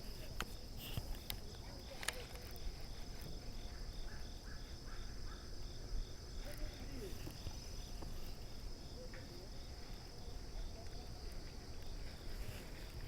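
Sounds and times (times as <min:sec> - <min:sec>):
insect chirping in pulses: 0:00.0 - 0:13.0
insect high trill: 0:00.0 - 0:13.0.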